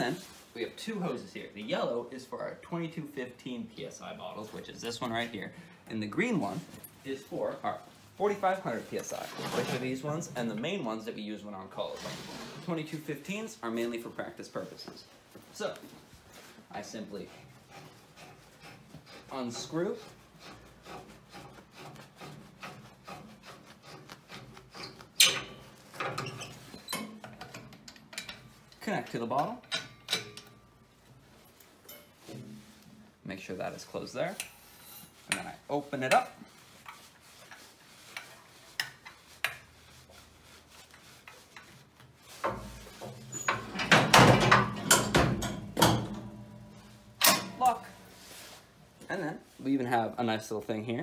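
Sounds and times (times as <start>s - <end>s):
hose rubbing and scraping: 2.2s - 27.7s, 30.9s - 44.2s, 46.8s - 51.0s.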